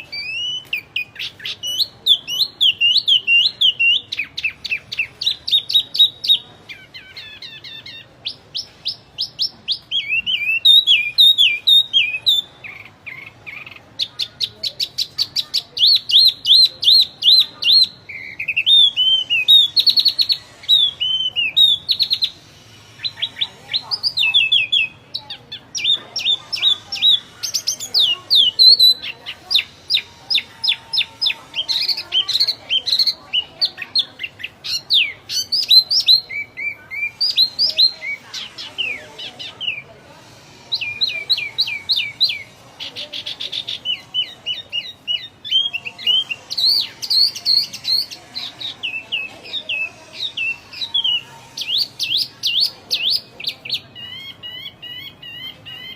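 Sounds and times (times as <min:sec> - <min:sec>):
songbird singing chirps and trills: 0:00.0 - 0:55.9.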